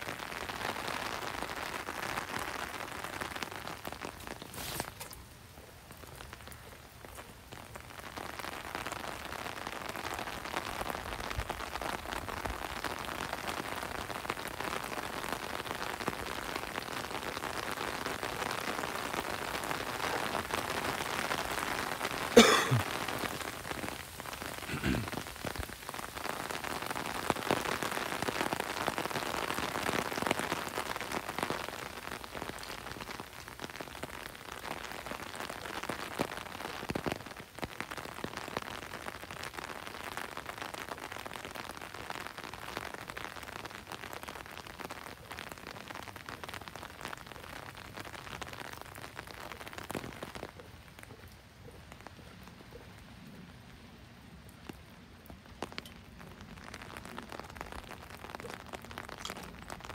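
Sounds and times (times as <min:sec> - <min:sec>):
rain pattering on pavement: 0:00.0 - 0:59.9.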